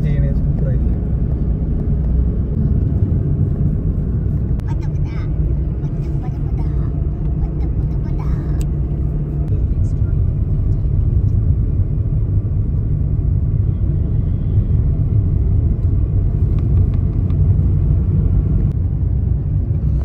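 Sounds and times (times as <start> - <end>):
loud low rumble: 0.0 - 20.0.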